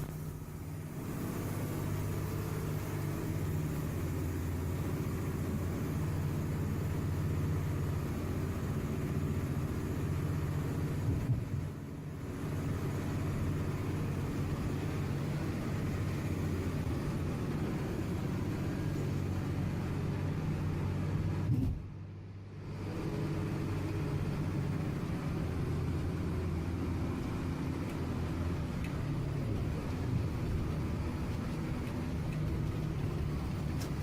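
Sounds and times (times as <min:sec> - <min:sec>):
heavy machine engine running: 0:00.0 - 0:34.0.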